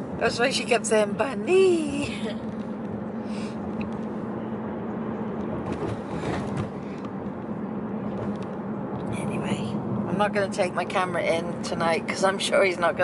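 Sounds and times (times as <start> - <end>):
car road and engine drone: 0.0 - 13.0.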